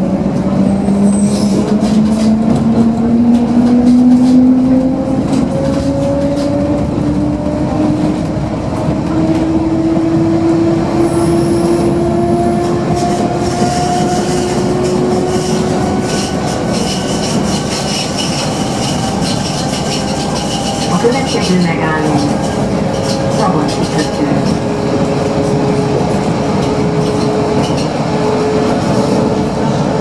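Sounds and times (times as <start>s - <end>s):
wheels running on track: 0.0s - 30.0s.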